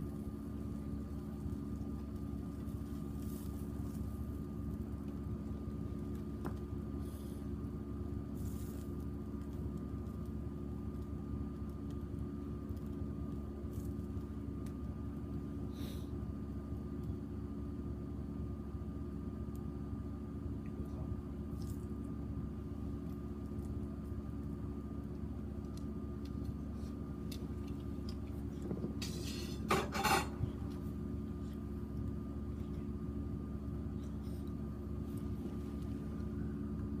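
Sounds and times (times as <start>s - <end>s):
wood fire rumbling: 0.0s - 37.0s.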